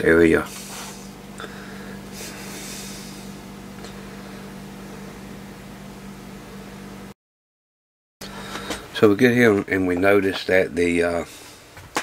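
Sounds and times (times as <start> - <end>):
low hum with faint hiss: 0.0 - 7.1, 8.2 - 12.0.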